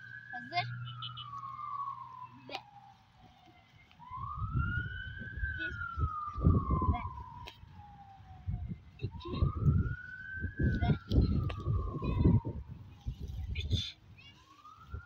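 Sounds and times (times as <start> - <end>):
siren wailing: 0.0 - 13.6, 14.3 - 15.0.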